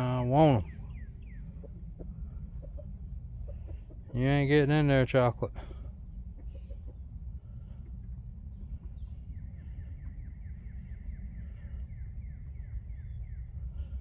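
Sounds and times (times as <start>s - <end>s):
wind on microphone rumble: 0.0s - 4.2s, 5.7s - 14.0s.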